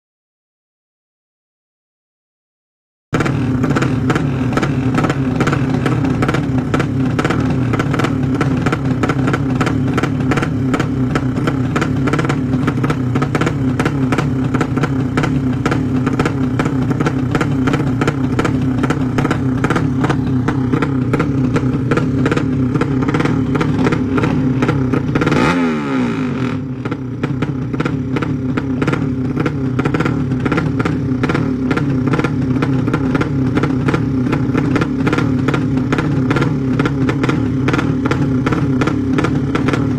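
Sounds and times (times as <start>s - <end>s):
racing motorcycle engines revving: 3.2s - 39.9s.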